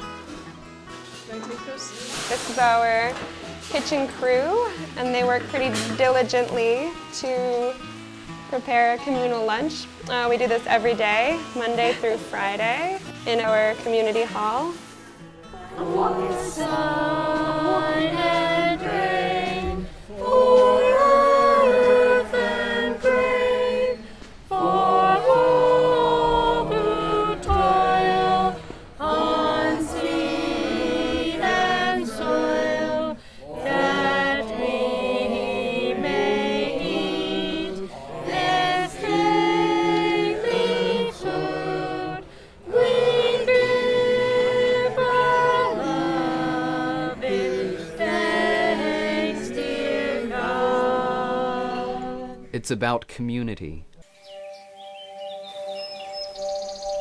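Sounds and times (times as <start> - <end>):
group singing unaccompanied: 2.0 - 7.7, 8.5 - 52.6.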